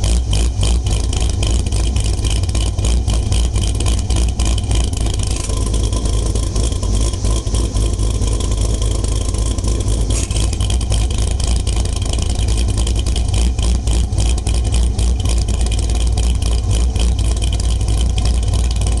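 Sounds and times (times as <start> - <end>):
engine idling with deep exhaust rumble: 0.0 - 19.0.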